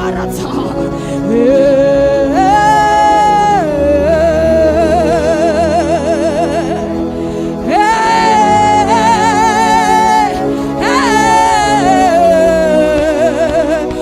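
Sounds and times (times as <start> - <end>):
sustained keyboard chord: 0.0 - 14.0
person singing long notes: 0.4 - 14.0.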